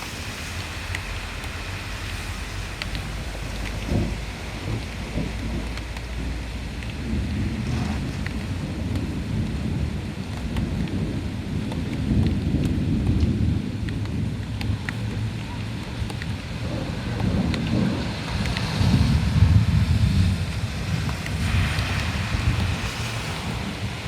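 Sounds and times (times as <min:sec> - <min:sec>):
heavy rain falling: 0:00.0 - 0:24.0
rolling thunder: 0:02.6 - 0:24.0.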